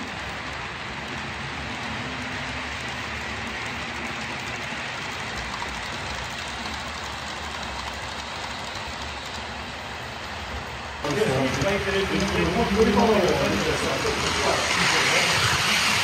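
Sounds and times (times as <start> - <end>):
model train rolling hiss: 0.0 - 16.0.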